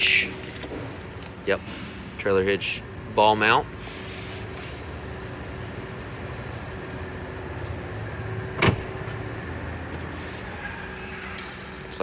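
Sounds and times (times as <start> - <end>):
steady low hum with tones: 0.0 - 12.0.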